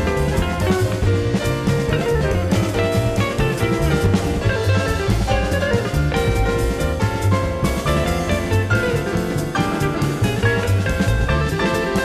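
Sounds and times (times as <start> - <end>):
jazz fusion band playing: 0.0 - 12.0.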